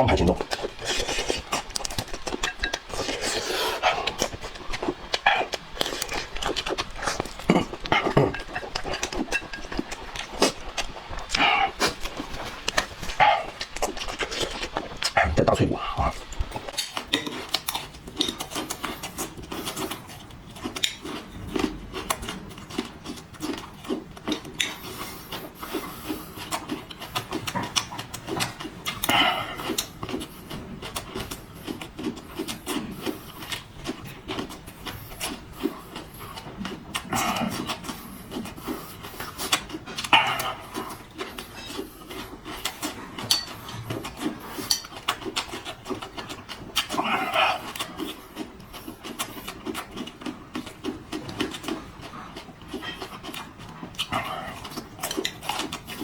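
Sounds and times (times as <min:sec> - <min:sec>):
person chewing: 0:00.0 - 0:56.0
slurping: 0:00.0 - 0:56.0.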